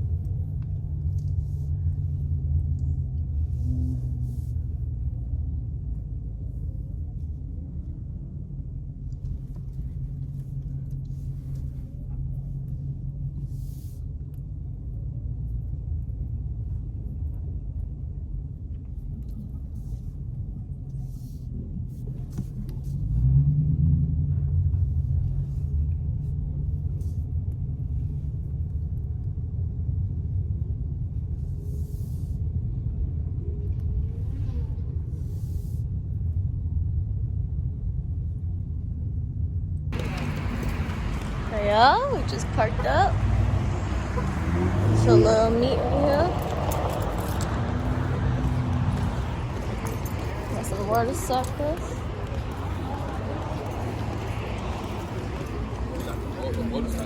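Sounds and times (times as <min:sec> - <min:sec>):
car engine low rumble: 0:00.0 - 0:57.0.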